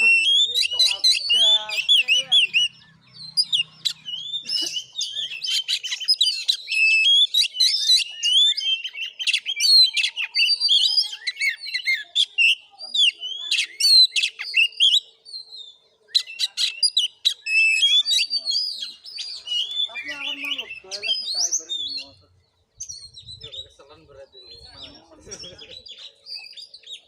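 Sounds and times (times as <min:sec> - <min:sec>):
bird singing chattering notes: 0:00.0 - 0:27.0.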